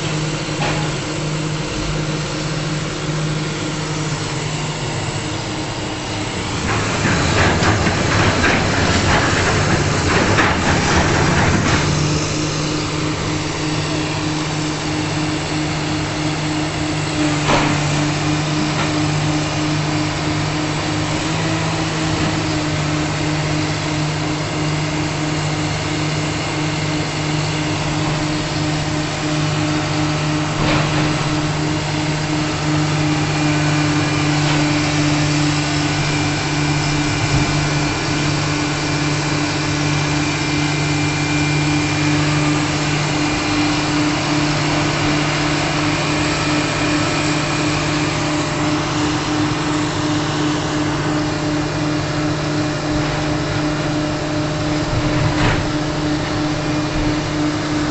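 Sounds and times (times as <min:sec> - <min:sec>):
motor humming: 0:00.0 - 0:57.9.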